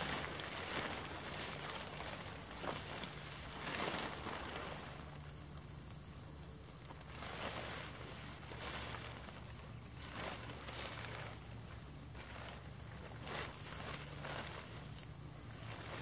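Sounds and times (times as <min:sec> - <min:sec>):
rustling of camping gear: 0:00.0 - 0:16.0.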